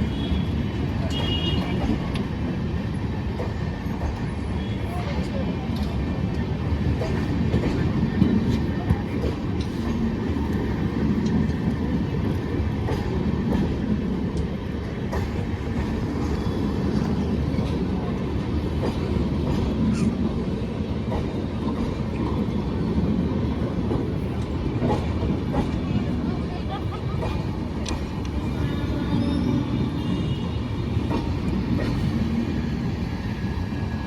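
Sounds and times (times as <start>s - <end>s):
train coaches rumbling past: 0.0s - 34.0s.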